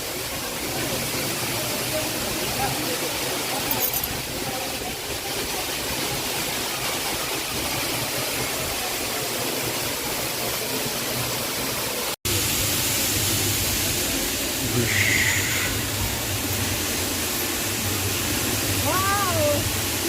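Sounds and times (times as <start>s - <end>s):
waterfall rushing water: 0.0s - 20.0s.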